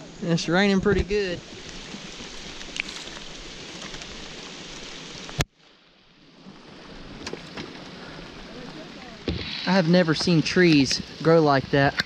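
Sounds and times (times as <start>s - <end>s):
rain on water and kayak: 0.0s - 12.0s.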